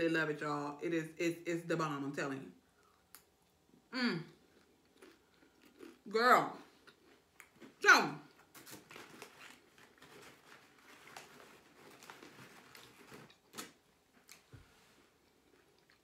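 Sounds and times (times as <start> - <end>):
faint chewing of chips: 2.7 - 16.0.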